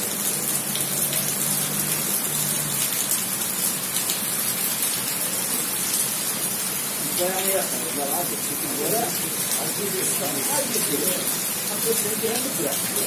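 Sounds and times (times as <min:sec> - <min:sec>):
heavy rain on wet paving: 0:00.0 - 0:13.0.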